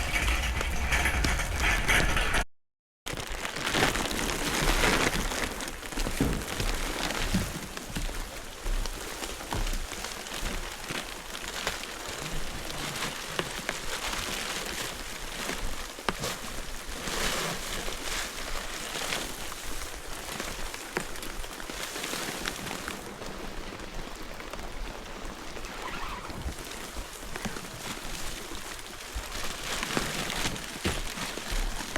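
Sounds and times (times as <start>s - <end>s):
rain falling: 3.1s - 31.9s.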